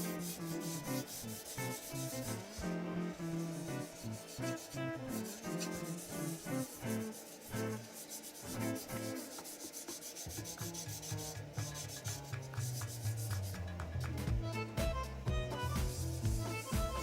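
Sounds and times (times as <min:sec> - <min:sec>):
sandpaper rubbing on wood: 0:00.0 - 0:13.7, 0:15.6 - 0:17.0.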